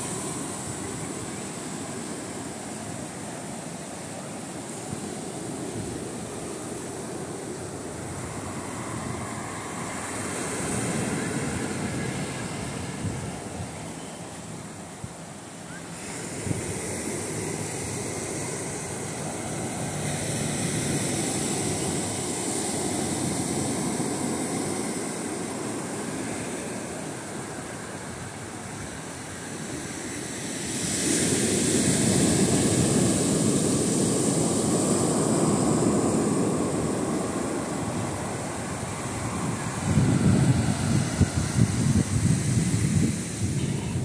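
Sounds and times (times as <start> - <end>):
waves washing up a beach: 0.0 - 44.0.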